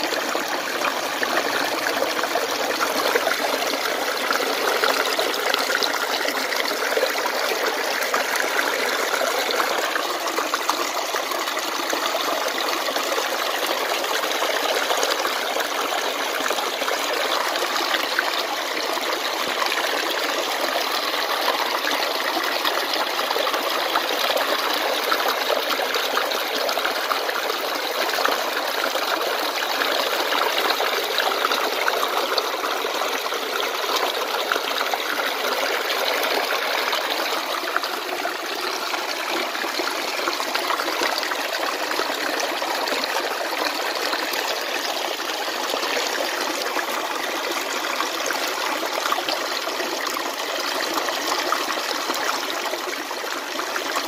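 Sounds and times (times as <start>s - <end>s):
stream water cascading over rocks: 0.0s - 54.0s.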